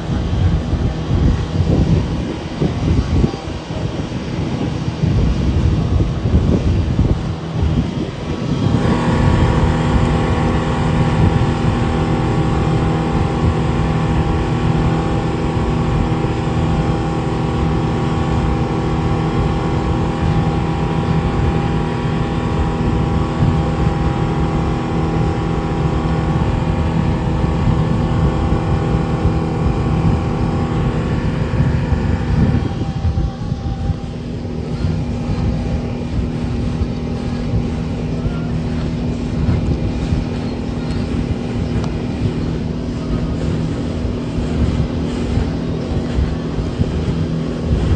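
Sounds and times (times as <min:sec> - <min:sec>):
outboard motor droning: 0:00.0 - 0:47.9
water rushing: 0:00.0 - 0:47.9
wind: 0:00.0 - 0:47.9.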